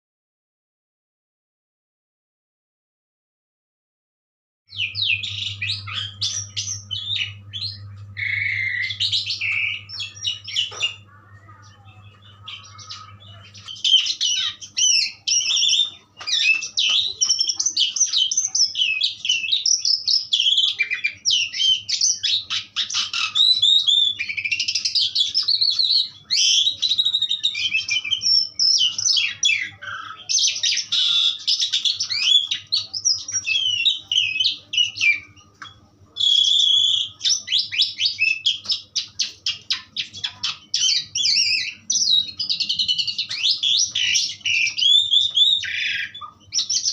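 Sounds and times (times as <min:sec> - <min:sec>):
starling singing: 0:04.7 - 0:46.9.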